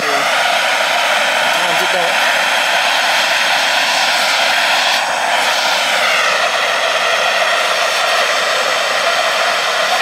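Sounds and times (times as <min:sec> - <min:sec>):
torch flame rushing: 0:00.0 - 0:10.0.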